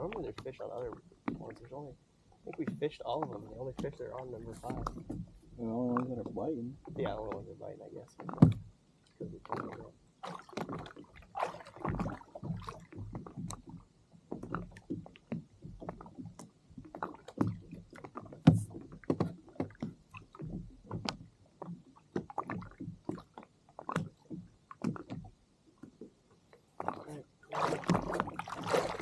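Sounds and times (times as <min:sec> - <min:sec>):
water slapping against kayak hull: 0:02.5 - 0:07.5, 0:08.1 - 0:26.0, 0:26.8 - 0:29.0.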